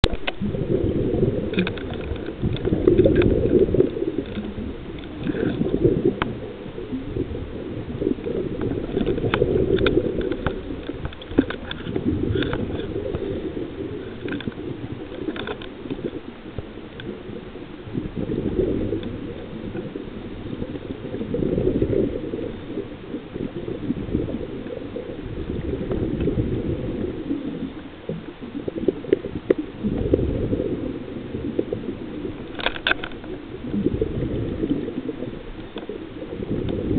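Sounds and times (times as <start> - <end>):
muffled underwater noise: 0.0 - 36.9.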